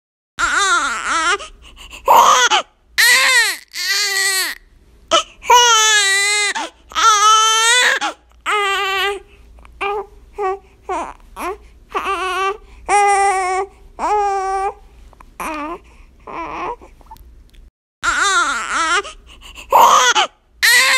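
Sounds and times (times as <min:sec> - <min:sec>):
infant crying: 0:00.4 - 0:14.8, 0:15.4 - 0:17.1, 0:18.0 - 0:20.9.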